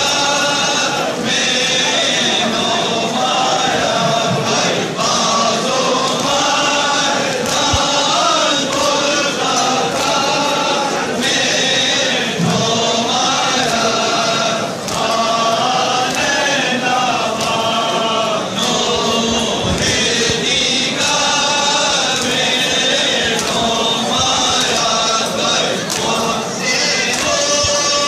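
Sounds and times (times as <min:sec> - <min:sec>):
crowd of men chanting: 0:00.0 - 0:28.0.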